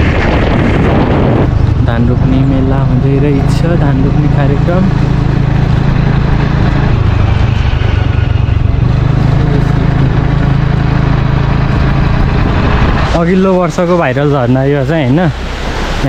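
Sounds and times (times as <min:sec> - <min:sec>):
small engine running: 0:00.0 - 0:13.2
loud rushing noise: 0:00.0 - 0:16.0.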